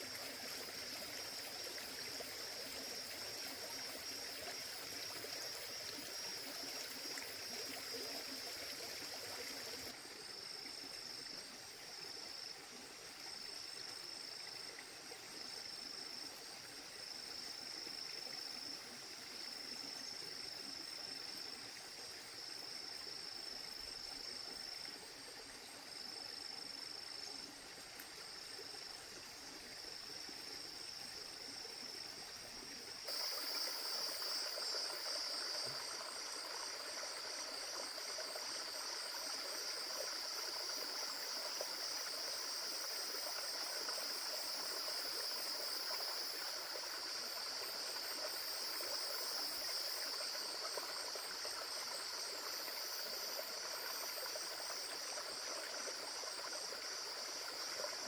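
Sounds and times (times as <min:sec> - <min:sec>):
forest insects chorus: 0:00.0 - 0:58.0.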